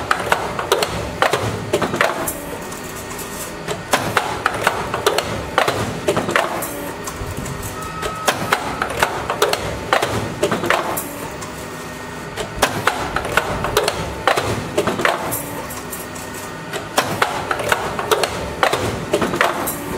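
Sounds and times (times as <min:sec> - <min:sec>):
pneumatic bending machine clacking: 0:00.0 - 0:19.9.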